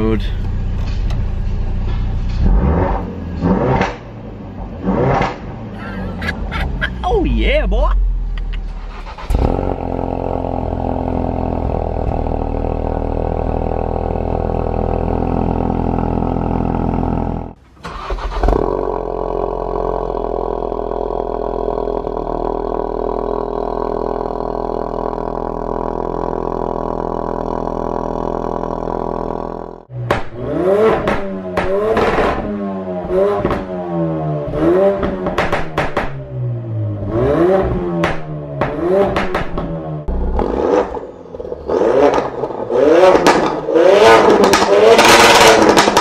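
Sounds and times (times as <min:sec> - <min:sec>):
car engine revving: 0:00.6 - 0:07.0, 0:08.0 - 0:46.0.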